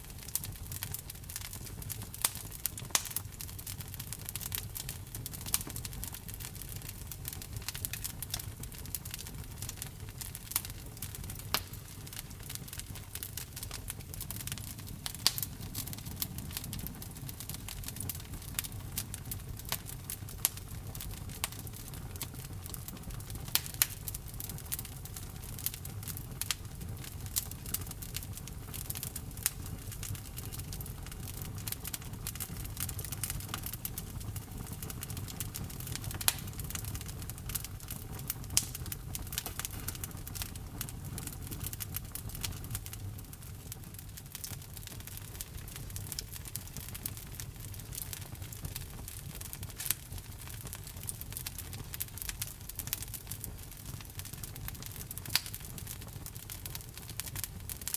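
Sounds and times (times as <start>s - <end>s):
logs crackling and popping: 0.0s - 57.9s
low rumble of flames: 0.0s - 57.9s.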